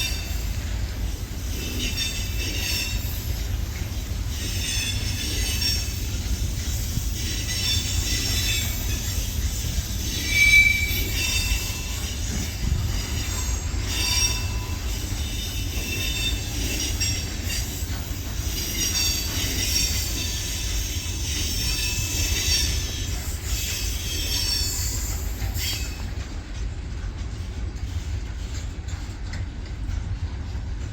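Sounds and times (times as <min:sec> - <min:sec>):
train wheels squealing on rails: 0:00.0 - 0:30.8
train rumble: 0:00.0 - 0:30.9.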